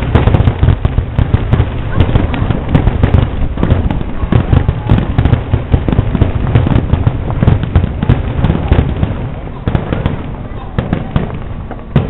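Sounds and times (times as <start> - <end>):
fireworks booming: 0.0 - 12.0
sharp firework reports: 0.0 - 12.0.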